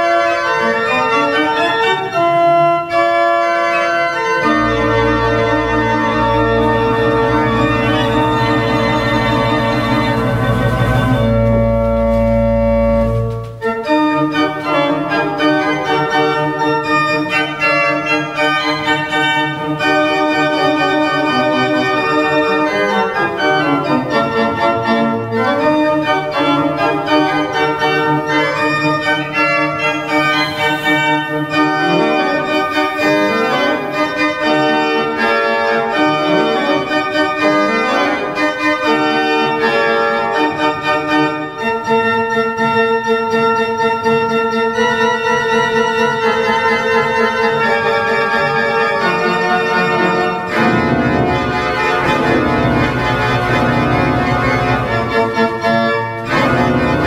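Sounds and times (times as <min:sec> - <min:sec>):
pipe organ playing: 0:00.0 - 0:57.0.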